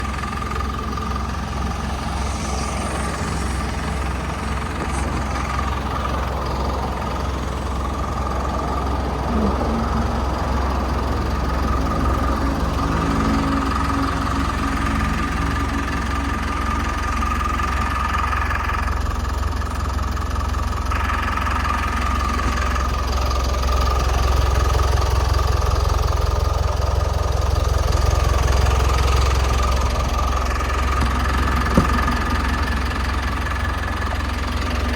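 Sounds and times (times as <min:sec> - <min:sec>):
diesel truck engine idling: 0:00.0 - 0:34.9
high engine whine: 0:00.0 - 0:34.9.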